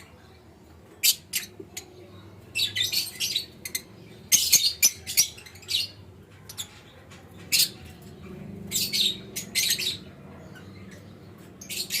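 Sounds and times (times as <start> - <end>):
bird chicks chirping: 0.0 - 12.0.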